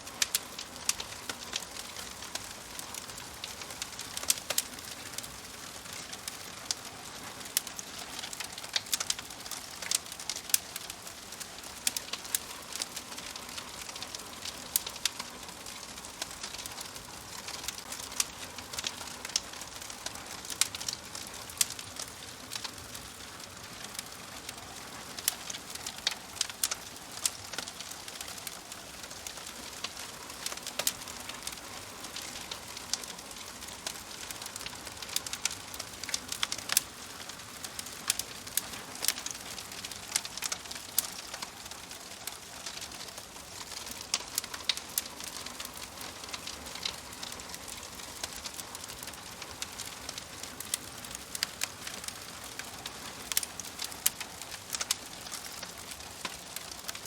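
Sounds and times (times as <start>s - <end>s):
logs crackling and popping: 0.0s - 57.0s
hiss of flames: 0.1s - 57.0s.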